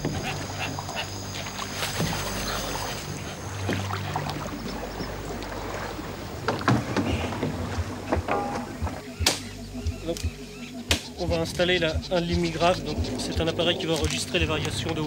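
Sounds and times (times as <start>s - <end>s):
low steady hum: 0.0s - 15.0s
water sloshing: 0.0s - 15.0s.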